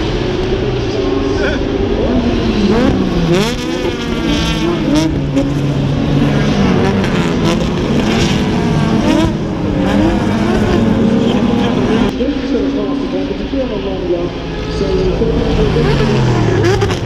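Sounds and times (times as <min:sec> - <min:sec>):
race car engines passing: 0:00.0 - 0:17.0.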